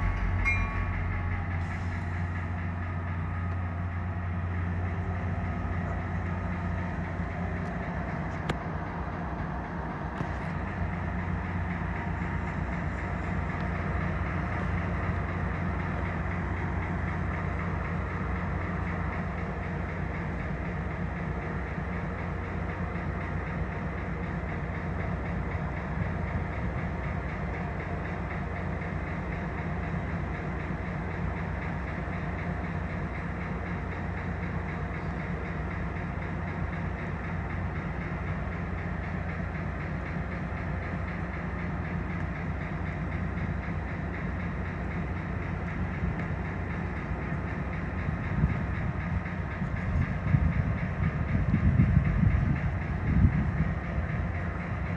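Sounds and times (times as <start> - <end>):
train rumble: 0.0 - 54.9.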